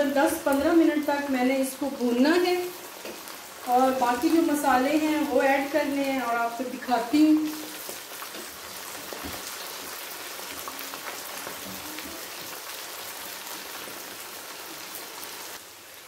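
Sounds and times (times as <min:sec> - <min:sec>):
beef sizzling in oil: 0:00.0 - 0:16.0.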